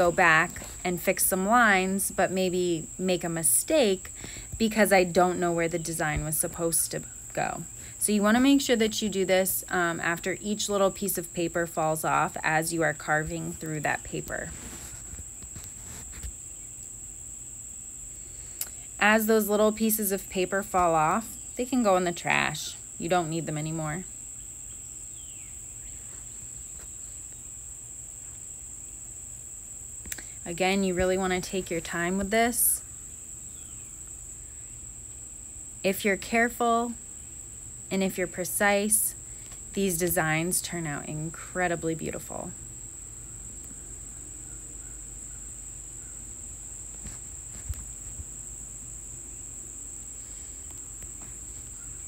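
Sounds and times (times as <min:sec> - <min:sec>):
steady high-pitched whine: 0:00.0 - 0:52.0.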